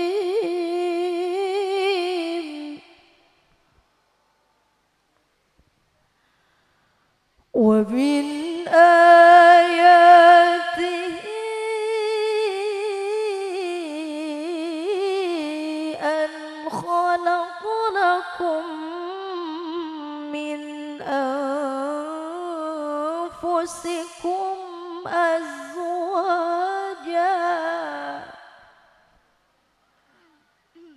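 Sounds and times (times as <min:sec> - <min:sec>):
woman reciting melodically: 0:00.0 - 0:03.4, 0:07.6 - 0:29.0.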